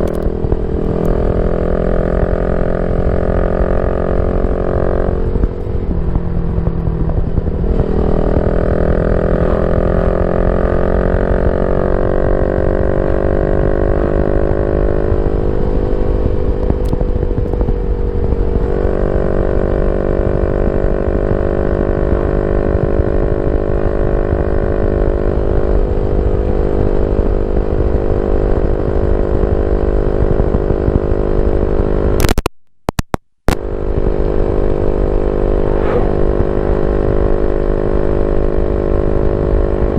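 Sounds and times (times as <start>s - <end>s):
motorcycle engine running: 0.0s - 32.5s, 33.5s - 39.9s.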